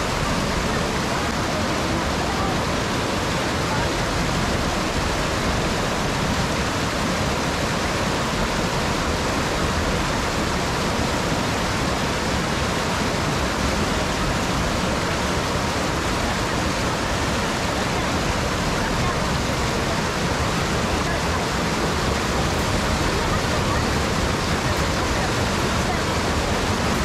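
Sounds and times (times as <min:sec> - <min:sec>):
stream rushing over boulders: 0:00.0 - 0:27.0.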